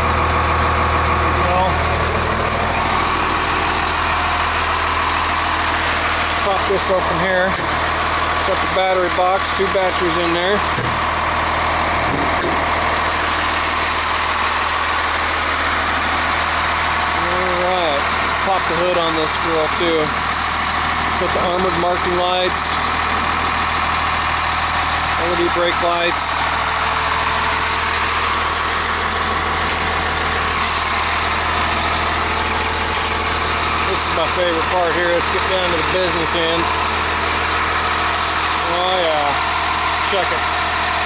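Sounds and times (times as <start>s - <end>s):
diesel bus engine idling: 0.0s - 41.0s.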